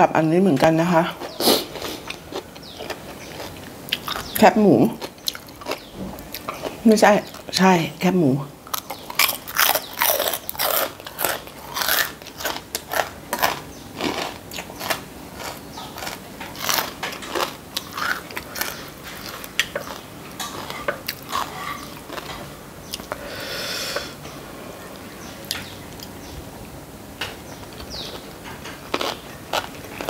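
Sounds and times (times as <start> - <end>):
crunchy chewing: 1.1 - 7.6, 8.6 - 24.2, 27.5 - 30.0.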